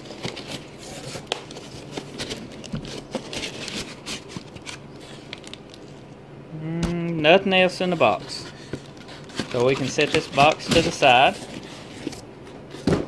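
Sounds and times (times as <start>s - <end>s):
cardboard scraping and rustling: 0.0s - 5.5s, 7.8s - 13.0s.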